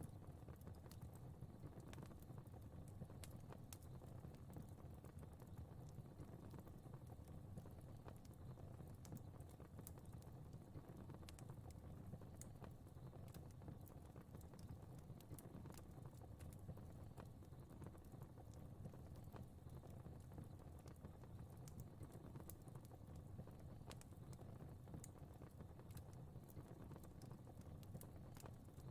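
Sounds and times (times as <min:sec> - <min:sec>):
fire crackling: 0:00.3 - 0:28.8.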